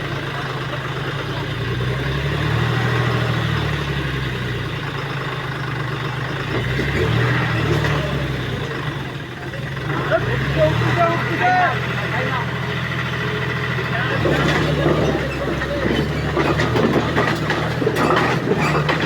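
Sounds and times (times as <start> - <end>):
engine running with low drone: 0.0 - 19.0.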